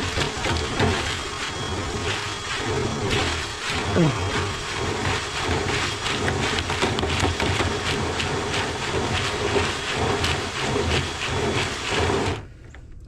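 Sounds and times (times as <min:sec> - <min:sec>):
vent cleaning machine rushing: 0:00.0 - 0:12.6.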